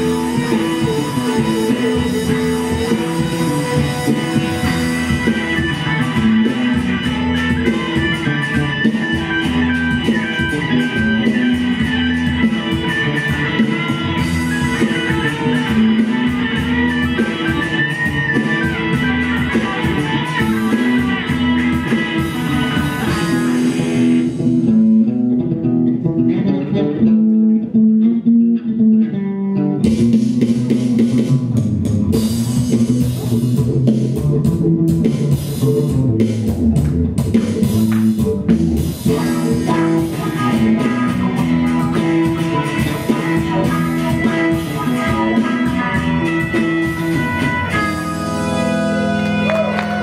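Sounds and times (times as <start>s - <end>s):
bass line: 0.0s - 50.0s
electric and acoustic guitars: 0.0s - 50.0s.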